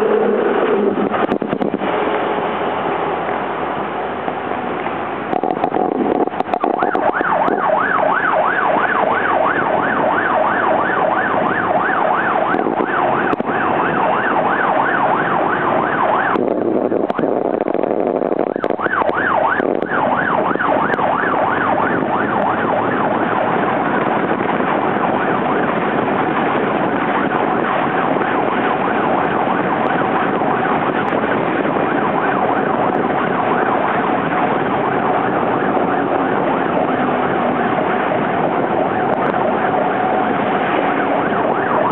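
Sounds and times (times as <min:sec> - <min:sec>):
police siren yelp: 0:00.0 - 0:01.8, 0:05.3 - 0:41.9
wind and road noise: 0:00.0 - 0:41.9.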